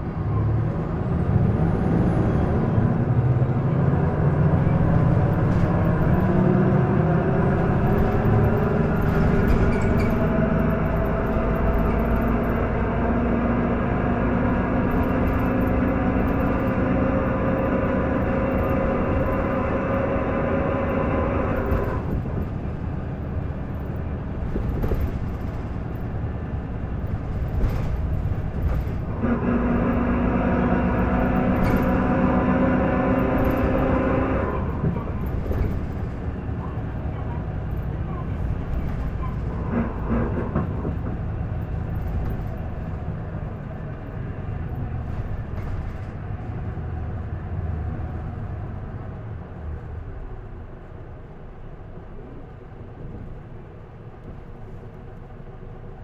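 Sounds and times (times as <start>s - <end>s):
bus engine whine accelerating: 0.0s - 56.0s.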